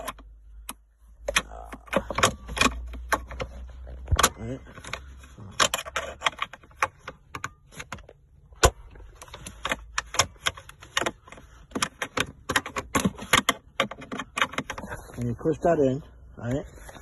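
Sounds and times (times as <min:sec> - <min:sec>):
gear shifter clicking and rattling: 0:00.0 - 0:17.0.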